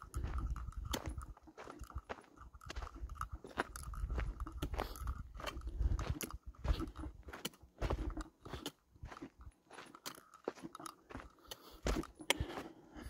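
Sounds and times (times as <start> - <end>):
footsteps on gravel: 0.0 - 13.0.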